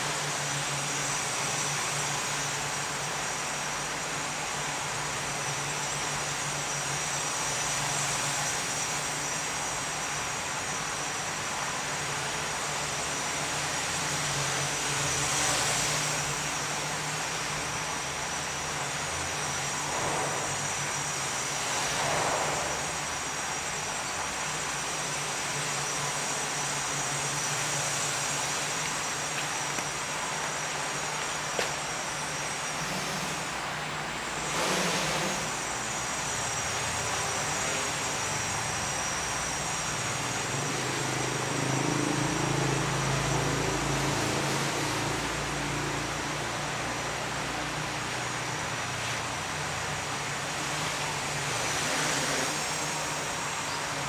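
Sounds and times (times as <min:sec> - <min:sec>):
small aircraft motor and propeller: 0:00.0 - 0:54.0.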